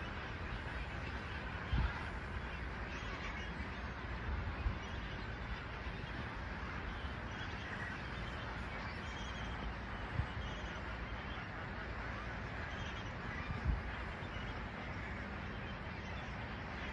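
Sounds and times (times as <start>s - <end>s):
flamingos honking and chattering: 0.0s - 16.9s.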